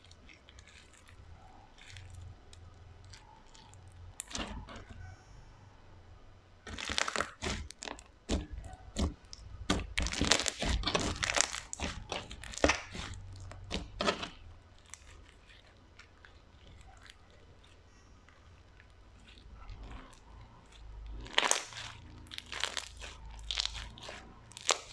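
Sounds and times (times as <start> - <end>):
slime crackling and popping: 0.0 - 4.9, 6.6 - 24.9.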